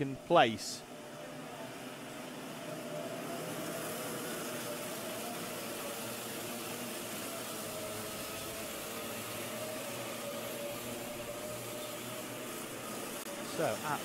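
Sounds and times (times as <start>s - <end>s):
kart engines humming: 0.0s - 14.0s.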